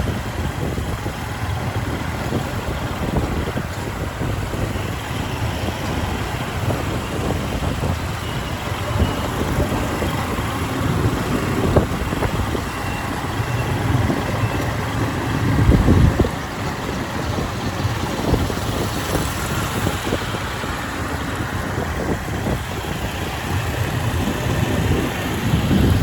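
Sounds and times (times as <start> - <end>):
motorcycle engine running: 0.0 - 26.0
other vehicles in traffic: 0.0 - 26.0.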